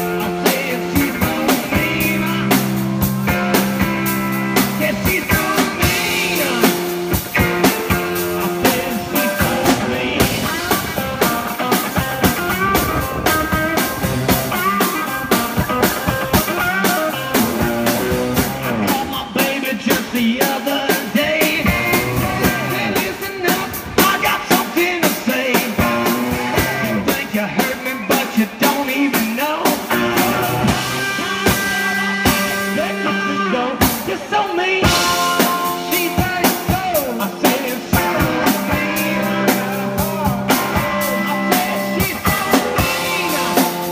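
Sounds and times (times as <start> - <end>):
drum kit: 0.0 - 43.9
electric guitar: 0.0 - 43.9
person singing: 0.0 - 43.9.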